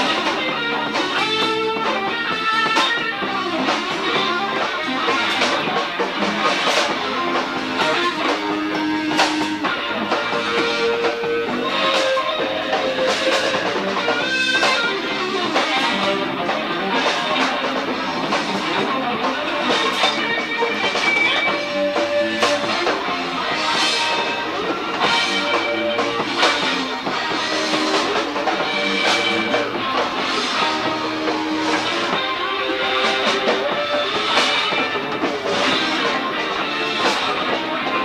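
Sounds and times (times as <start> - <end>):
bass guitar: 0.0 - 38.0
drum kit: 0.0 - 38.0
electric guitar: 0.0 - 38.0.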